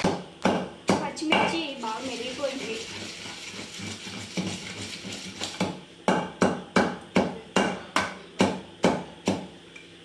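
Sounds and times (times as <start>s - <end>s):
pestle pounding in stone mortar: 0.0s - 1.6s, 2.6s - 9.5s.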